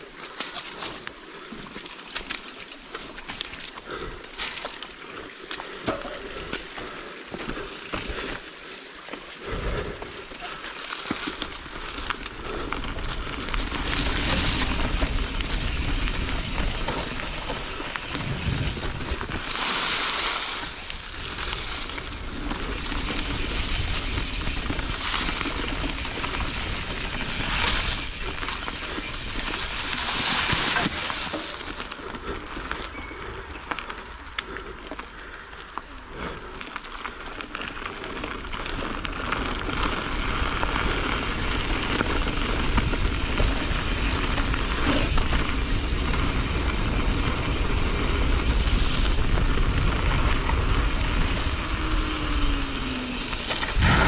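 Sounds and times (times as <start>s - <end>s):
bike rattling over bumps: 0.0s - 54.0s
tyres rolling over dirt and leaves: 0.0s - 54.0s.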